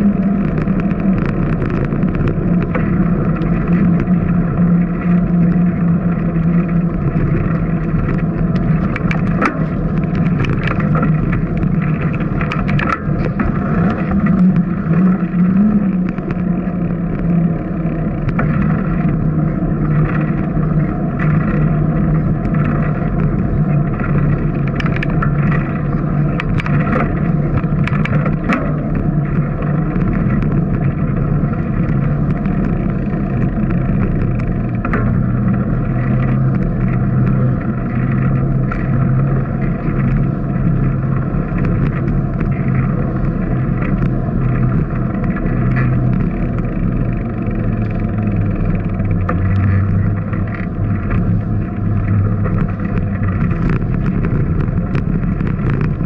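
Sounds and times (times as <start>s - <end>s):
bicycle riding rumble: 0.0s - 56.0s
light clicks and rattles: 0.0s - 56.0s.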